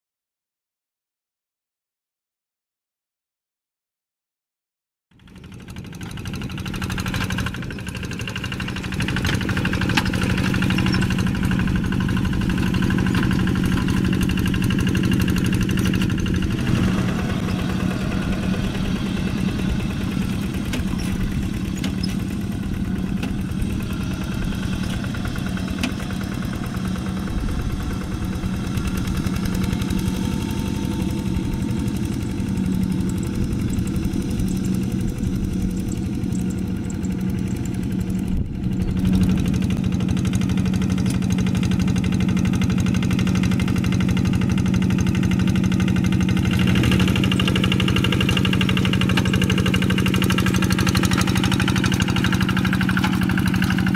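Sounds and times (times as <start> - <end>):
diesel engine drone: 5.1 - 53.9.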